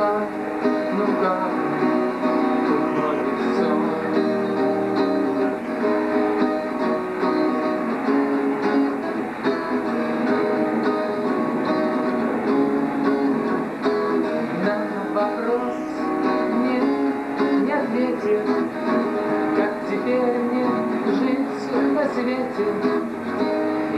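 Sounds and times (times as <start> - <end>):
acoustic guitar chords: 0.0 - 23.9.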